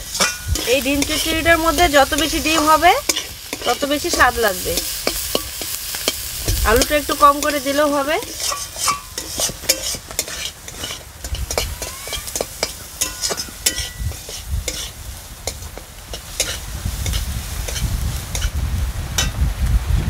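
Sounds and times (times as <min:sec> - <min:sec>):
spatula scraping a pan: 0:00.0 - 0:18.6
vegetables sizzling in hot oil: 0:00.0 - 0:20.0.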